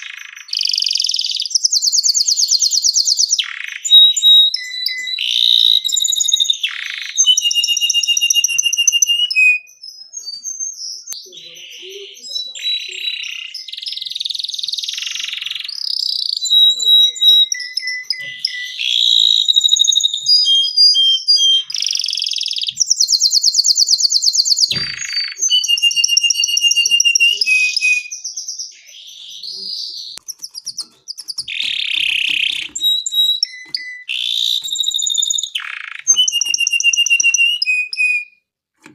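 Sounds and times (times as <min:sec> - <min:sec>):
canary singing: 0:00.0 - 0:38.5.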